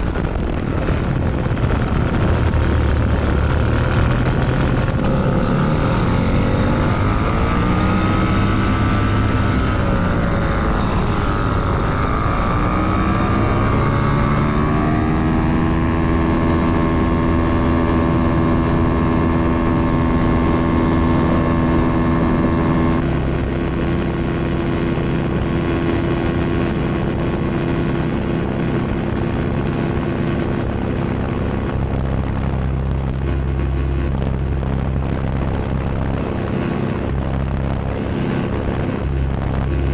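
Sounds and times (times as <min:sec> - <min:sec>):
small propeller engine droning: 0:00.0 - 0:39.9
wind noise: 0:00.0 - 0:39.9.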